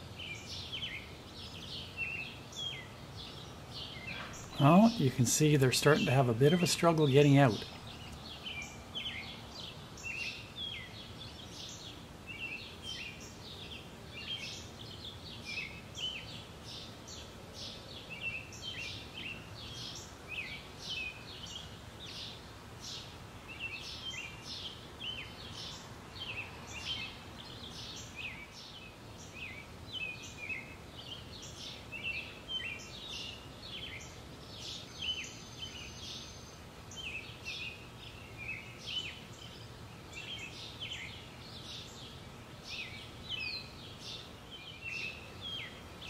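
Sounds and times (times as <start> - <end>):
faint outdoor background noise: 0.0 - 46.0
small birds chirping: 0.0 - 46.0.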